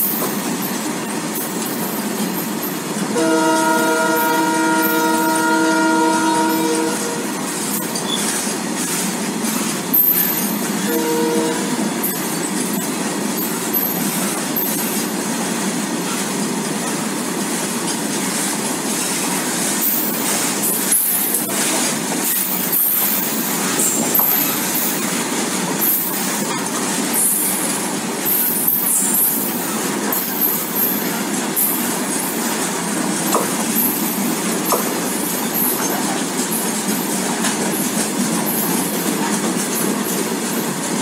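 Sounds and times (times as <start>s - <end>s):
train wheels rushing on rail: 0.0s - 41.0s.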